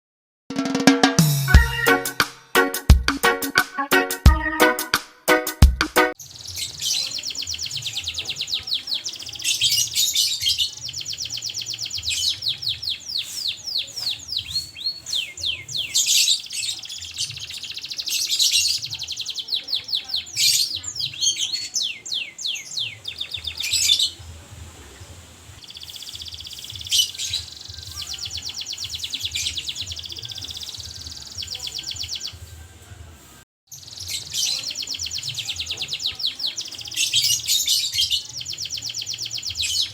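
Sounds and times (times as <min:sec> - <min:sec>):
canary singing in trills: 0:06.2 - 0:32.5, 0:33.7 - 0:39.9.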